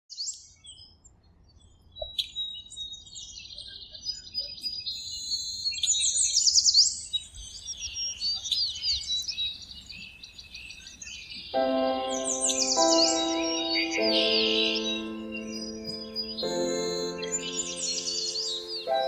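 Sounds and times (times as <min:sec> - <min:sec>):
birds chirping and trilling: 0:02.2 - 0:19.0.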